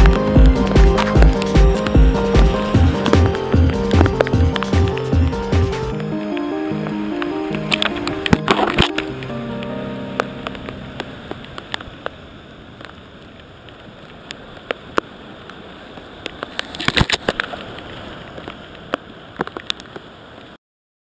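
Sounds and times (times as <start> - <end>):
rushing whitewater: 0.0 - 20.6.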